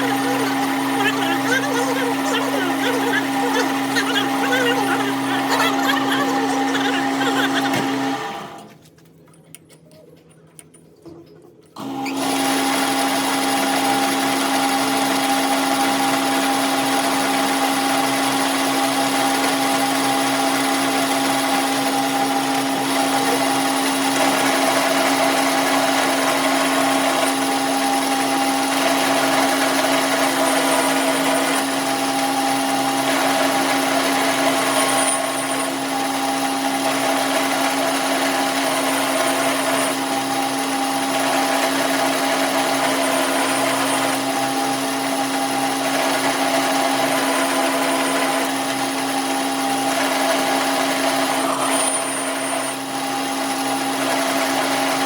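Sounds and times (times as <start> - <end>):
power tool humming: 0.0 - 8.7, 11.8 - 48.2.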